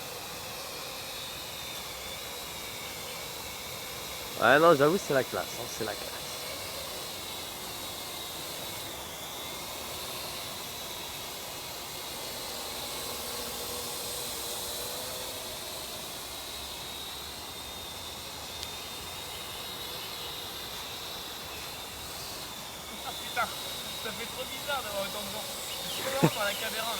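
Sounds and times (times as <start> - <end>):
drone rotors whirring: 0.0 - 26.9.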